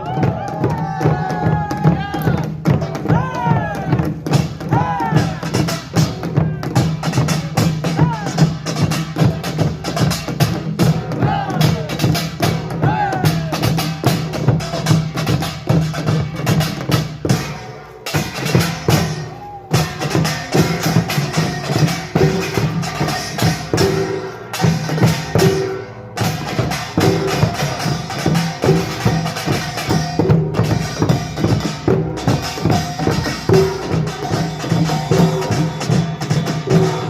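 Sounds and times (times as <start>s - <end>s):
percussion band playing gongs and drums: 0.0s - 37.0s.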